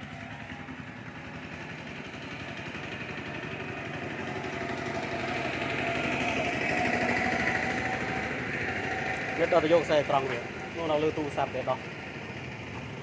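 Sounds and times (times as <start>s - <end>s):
small engine pulsing: 0.0s - 13.0s.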